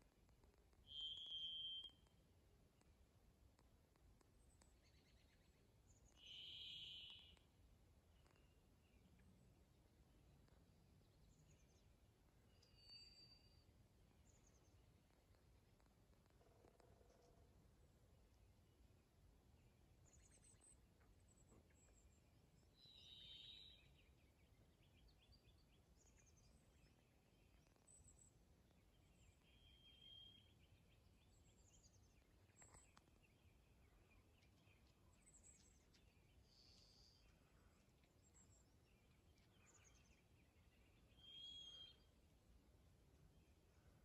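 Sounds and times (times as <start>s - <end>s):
songbirds singing: 0.7s - 2.2s, 4.2s - 44.0s.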